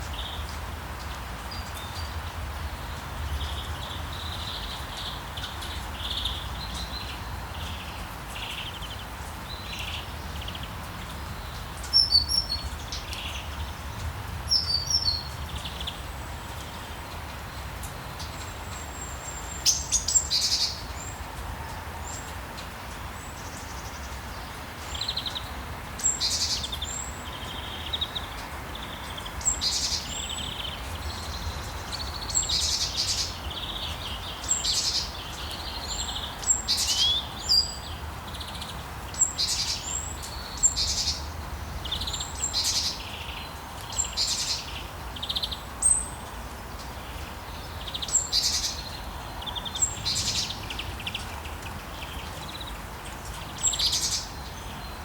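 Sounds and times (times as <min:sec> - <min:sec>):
rain hiss: 0:00.0 - 0:55.0
songbirds chirping: 0:00.0 - 0:55.0.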